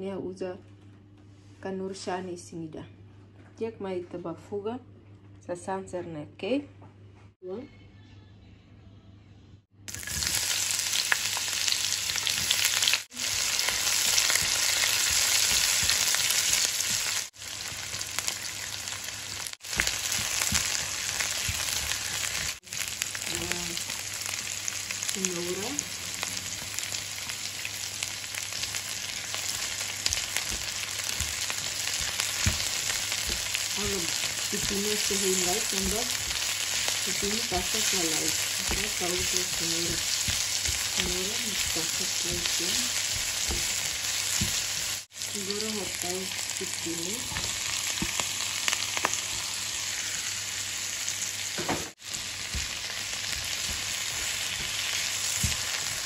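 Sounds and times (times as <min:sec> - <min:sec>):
vegetables sizzling in oil: 0:09.9 - 0:56.0.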